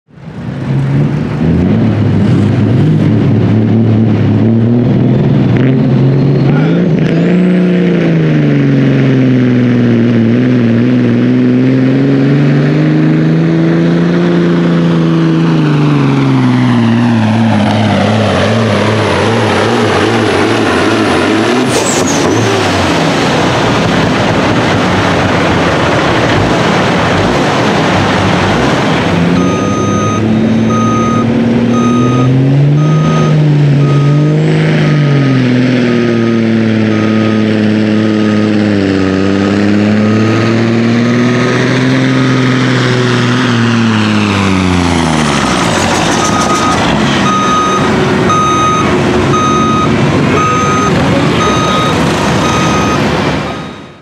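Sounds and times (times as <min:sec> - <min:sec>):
diesel truck engine under load: 0:00.1 - 0:54.0.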